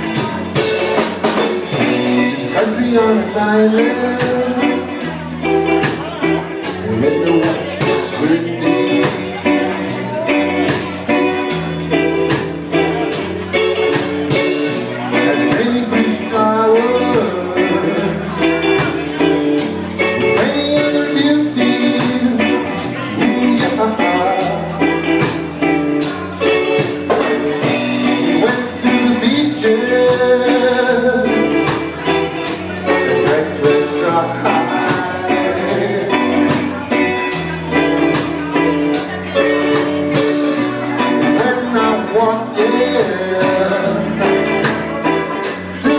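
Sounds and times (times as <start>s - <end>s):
live blues band with singer: 0.0s - 45.9s.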